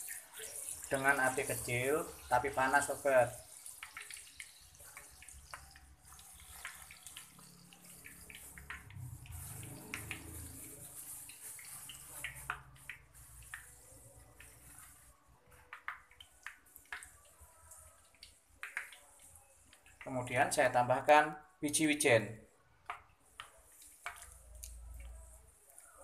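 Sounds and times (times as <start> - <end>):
oil bubbling in a frying pan: 0.0 - 21.8
small pops and crackles: 2.8 - 20.3, 22.7 - 26.0.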